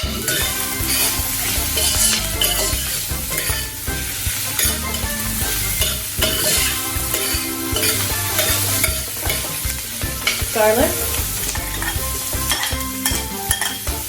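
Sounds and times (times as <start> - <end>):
food sizzling in oil: 0.0 - 14.0
utensil scraping a pan: 0.0 - 14.0.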